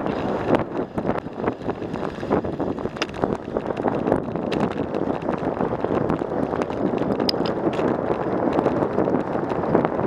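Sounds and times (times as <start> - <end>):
bicycle rattling clicks: 0.0 - 10.0
tyres rolling on asphalt: 0.0 - 10.0
wind rushing over microphone: 0.0 - 10.0.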